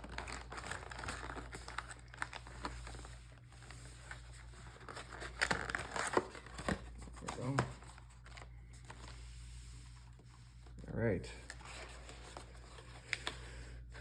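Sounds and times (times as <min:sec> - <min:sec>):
plastic packaging crinkling and tearing: 0:00.0 - 0:09.3, 0:10.0 - 0:13.5.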